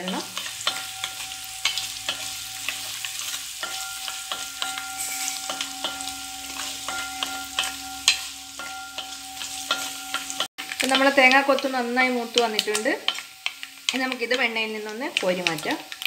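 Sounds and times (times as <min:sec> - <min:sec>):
coconut sizzling in pan: 0:00.0 - 0:16.0
spoon scraping metal pan: 0:00.0 - 0:16.0.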